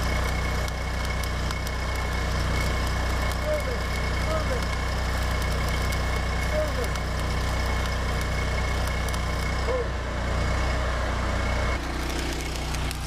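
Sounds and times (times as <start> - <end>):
welding arc crackling and hissing: 0.0 - 10.7, 11.8 - 13.0.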